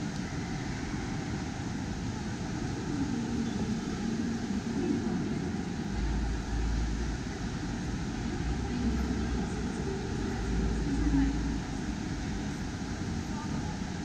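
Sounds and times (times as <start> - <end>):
faint distant voices: 0.3 - 14.0.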